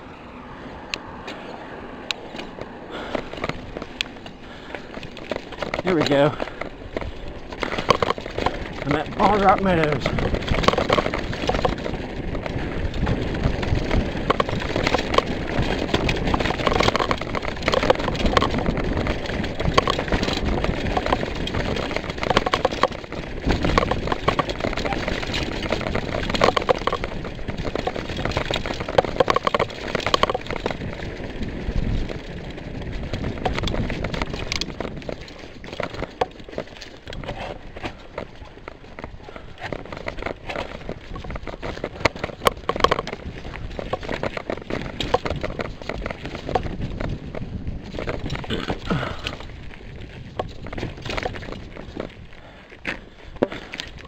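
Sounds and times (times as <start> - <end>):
bike tyres crunching on dirt: 0.0 - 54.0
bike rattling and knocking: 0.5 - 54.0.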